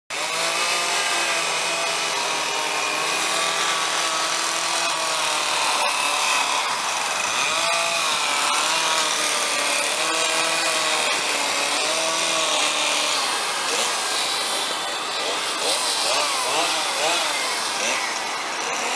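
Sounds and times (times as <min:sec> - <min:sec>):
chainsaw cutting wood: 0:00.1 - 0:18.9.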